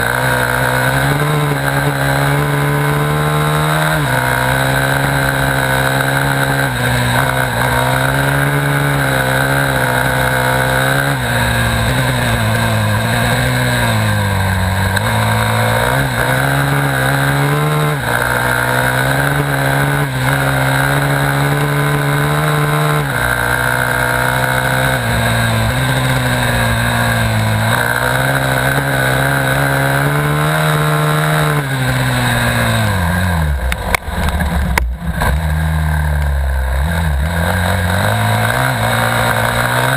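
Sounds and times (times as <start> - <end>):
dirt bike engine racing: 0.0 - 39.9.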